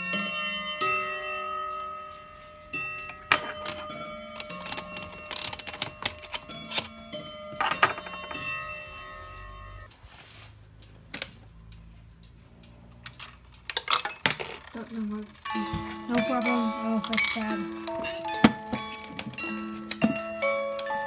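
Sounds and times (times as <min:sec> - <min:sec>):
mechanical clocks striking: 0:00.0 - 0:21.0.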